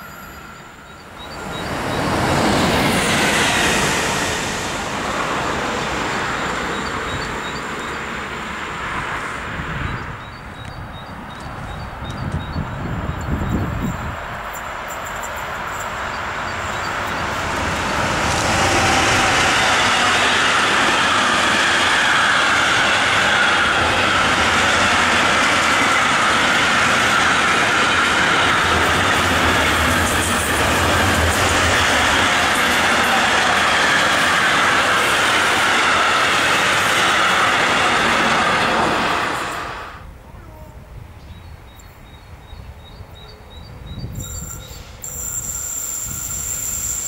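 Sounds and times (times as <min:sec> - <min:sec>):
freight train passing: 0:00.0 - 0:47.0.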